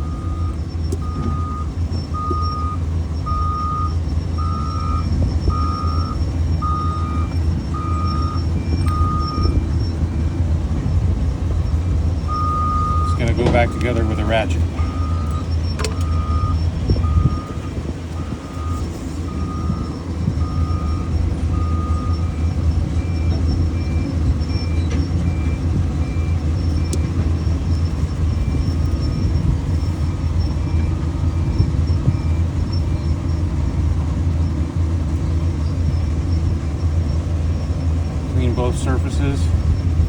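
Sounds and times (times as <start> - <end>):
heavy machine engine droning: 0.0 - 40.0
reversing alarm beeping: 0.0 - 40.0.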